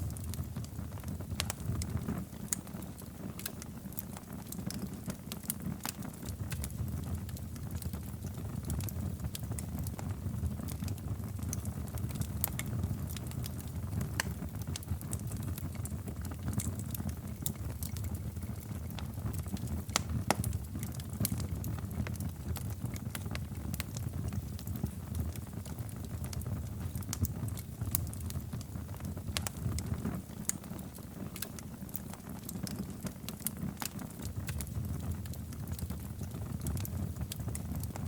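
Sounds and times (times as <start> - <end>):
fire crackling and popping: 0.0 - 38.0
fire flames rumbling: 0.0 - 38.0.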